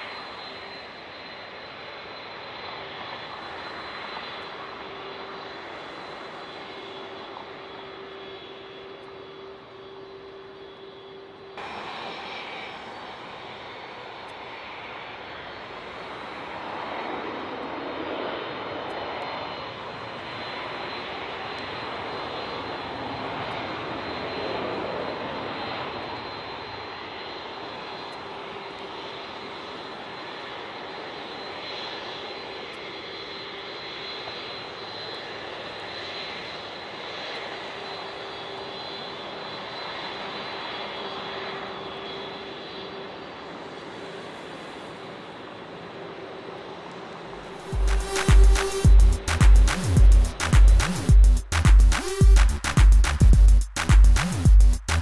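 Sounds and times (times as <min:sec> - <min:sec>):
jet engine rushing noise: 0:00.0 - 0:31.6, 0:32.3 - 0:55.0
jet engine whine: 0:00.0 - 0:55.0.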